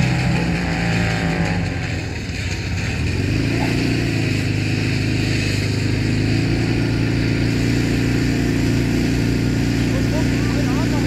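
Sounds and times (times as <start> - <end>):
pump engine running: 0.0 - 11.0.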